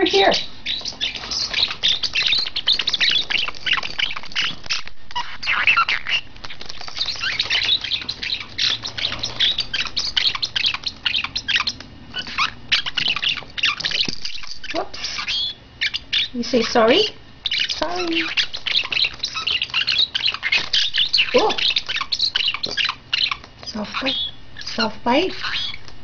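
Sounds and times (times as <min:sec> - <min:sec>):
parrot chirping and squawking: 0:00.0 - 0:26.0.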